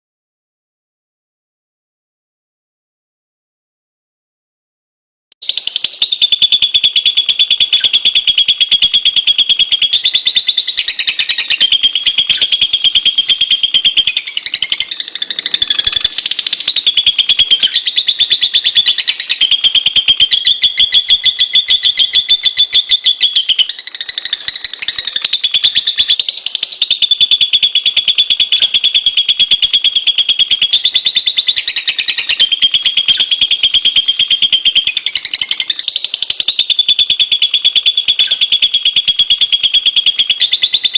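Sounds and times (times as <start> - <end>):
bird shrill chattering trill: 5.4 - 40.9.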